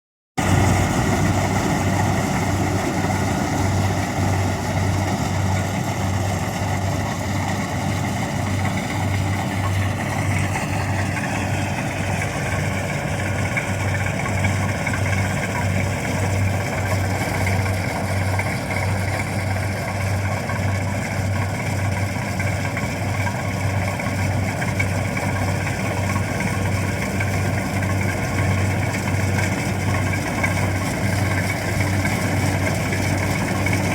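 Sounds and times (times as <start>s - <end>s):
combine harvester engine drone: 0.4s - 33.9s.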